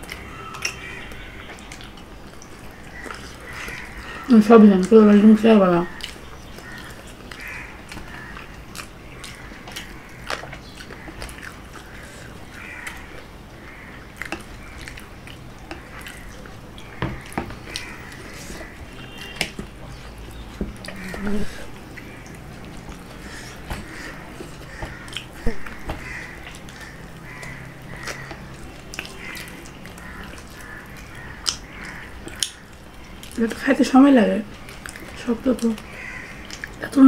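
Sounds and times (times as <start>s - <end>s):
chewing food: 0.0s - 37.0s.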